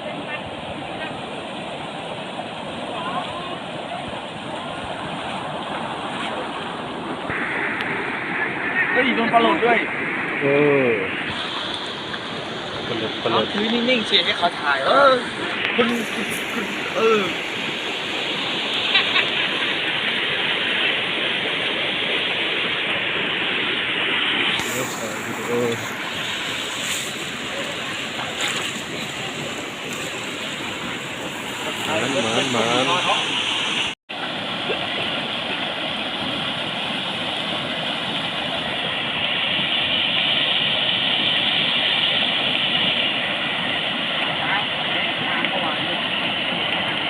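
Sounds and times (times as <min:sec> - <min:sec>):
water rushing over a weir: 0:00.0 - 0:47.0.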